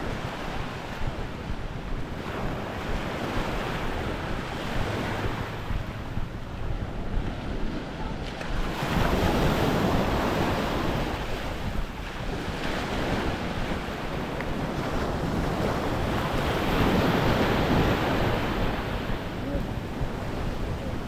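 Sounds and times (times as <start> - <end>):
waves washing on sandy beach: 0.0 - 21.0
wind buffeting microphone: 0.0 - 21.0.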